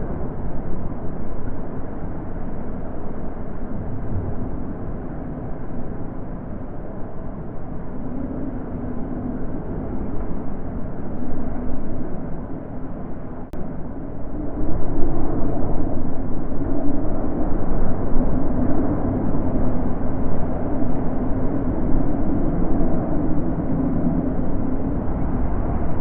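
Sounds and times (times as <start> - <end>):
wind blowing: 0.0 - 26.0.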